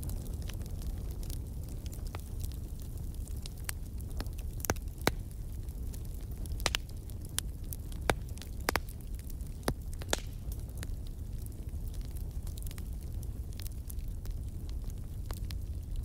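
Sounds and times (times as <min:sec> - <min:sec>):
coal crackling with pops: 0:00.0 - 0:16.0
low rumble of fire: 0:00.0 - 0:16.0.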